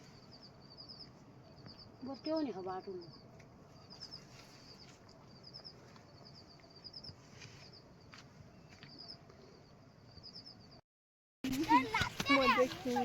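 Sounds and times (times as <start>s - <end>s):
faint high-pitched chirping: 0.0s - 10.8s.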